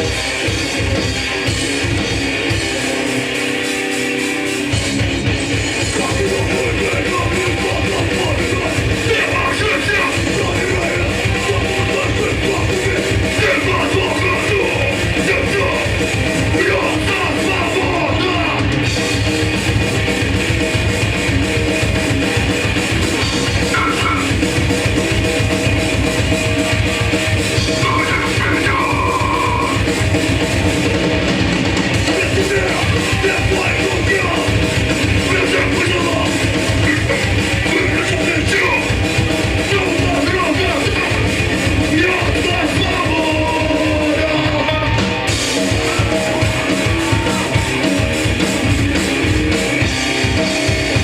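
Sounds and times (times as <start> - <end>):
punk band playing live: 0.0 - 51.0.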